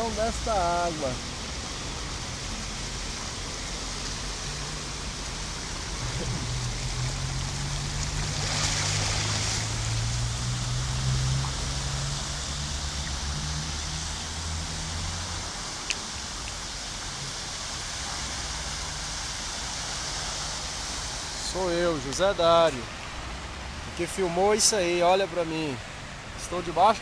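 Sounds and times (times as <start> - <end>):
floodwater rushing along street: 0.0 - 27.0.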